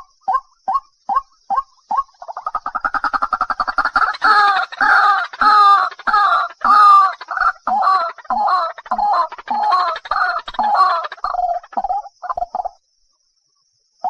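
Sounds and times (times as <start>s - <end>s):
waterhen calling: 1.1s - 12.7s.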